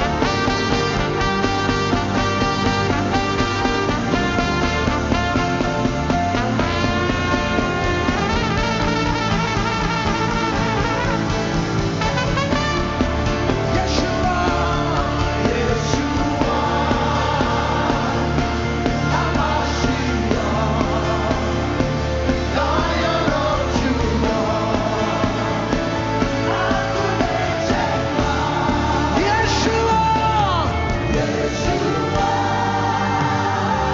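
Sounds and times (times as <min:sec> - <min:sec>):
gospel band playing: 0:00.0 - 0:33.9
people singing: 0:00.0 - 0:33.9
steady bass line: 0:00.0 - 0:33.9.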